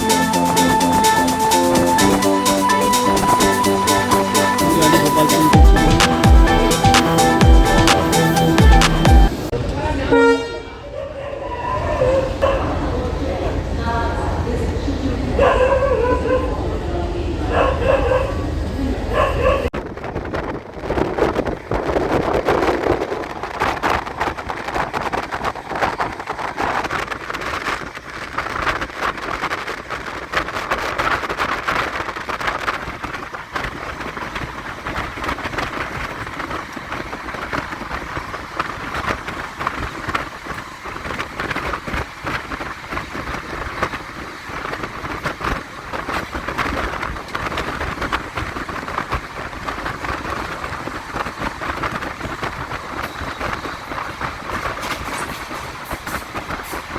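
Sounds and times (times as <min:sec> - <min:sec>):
train wheels rushing on rails: 0:00.0 - 0:10.6, 0:11.5 - 0:56.9.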